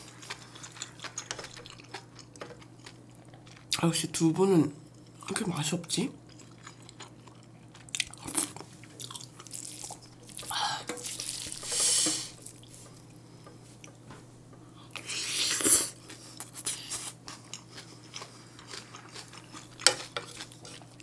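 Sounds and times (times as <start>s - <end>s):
person chewing: 0.0s - 3.8s, 6.2s - 14.0s, 14.8s - 21.0s.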